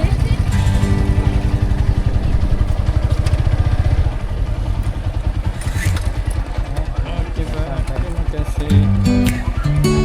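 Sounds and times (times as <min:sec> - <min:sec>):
engine running with fast pulse: 0:00.0 - 0:10.0.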